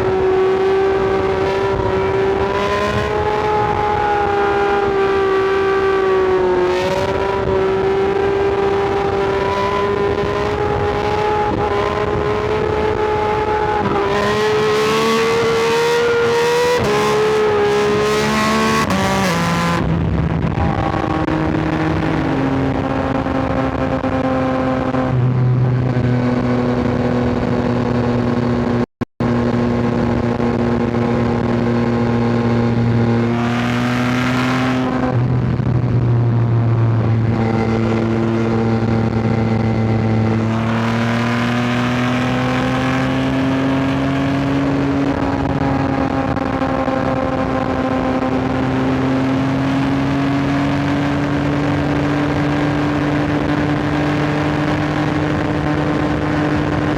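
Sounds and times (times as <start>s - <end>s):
wind and road noise: 0.0s - 56.9s.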